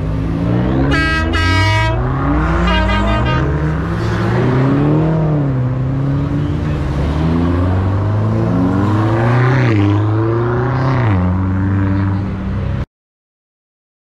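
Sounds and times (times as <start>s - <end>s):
cars driving past accelerating: 0.0s - 12.8s.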